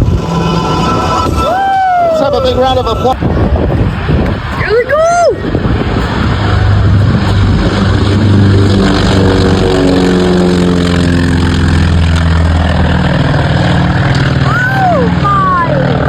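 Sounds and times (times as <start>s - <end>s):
propeller aircraft flying past: 0.0s - 16.0s.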